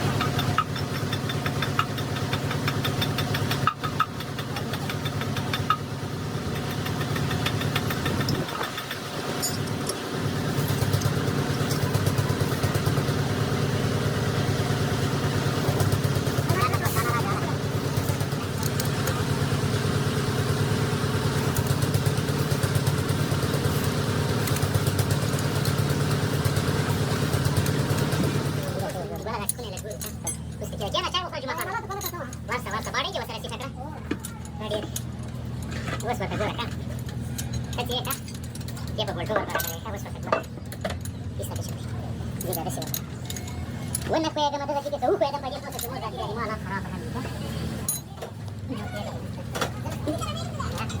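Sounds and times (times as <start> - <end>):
engine idling: 0.0 - 51.0.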